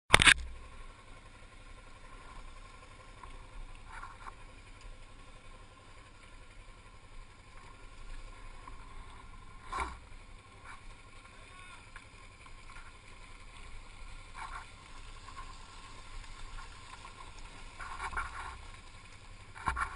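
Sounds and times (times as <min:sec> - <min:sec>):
motorcycle engine rumble: 0:00.2 - 0:19.9.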